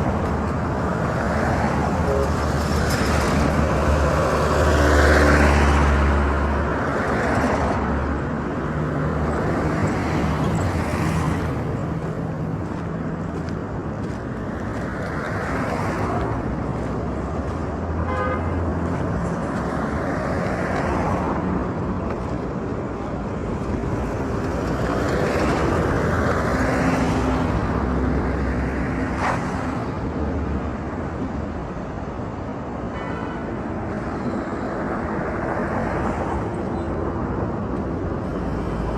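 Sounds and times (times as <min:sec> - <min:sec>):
cars passing: 0:00.0 - 0:38.9
vehicle engines humming: 0:00.0 - 0:38.9.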